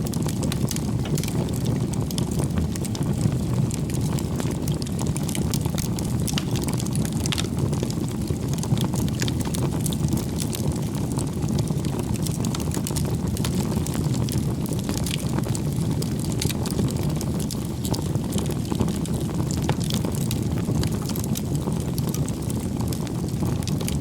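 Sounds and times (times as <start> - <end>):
burning logs crackling: 0.0 - 24.0
campfire flames rushing: 0.0 - 24.0.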